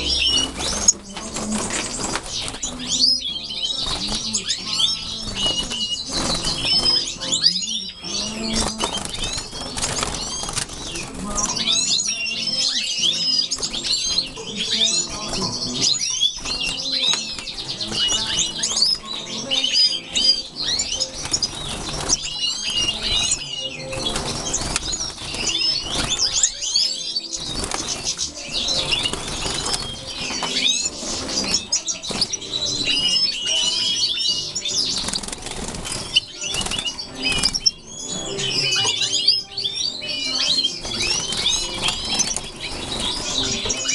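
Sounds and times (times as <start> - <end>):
wings fluttering: 0.0 - 39.3, 40.0 - 43.9
finches twittering and chirping: 0.0 - 43.9.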